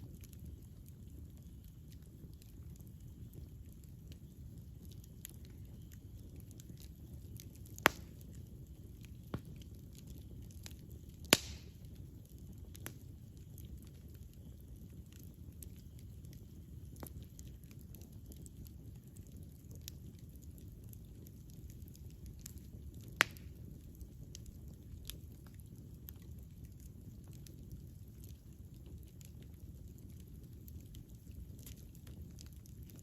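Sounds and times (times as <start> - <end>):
burning wood popping: 0.0 - 33.0
campfire crackling: 0.0 - 33.0.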